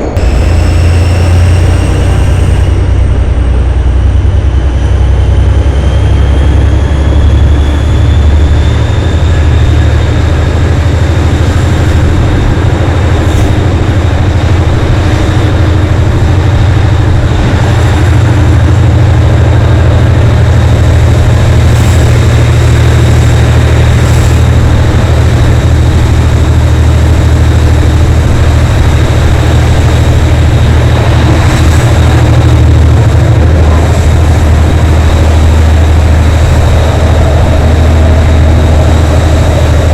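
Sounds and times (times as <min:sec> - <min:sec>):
diesel locomotive engine droning: 0:00.0 - 0:39.9.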